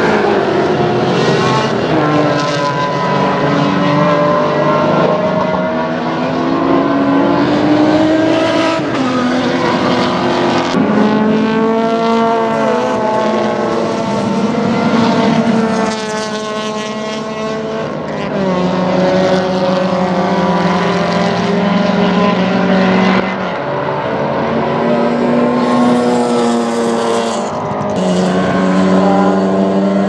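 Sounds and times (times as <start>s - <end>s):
race car engines accelerating: 0.0s - 30.0s.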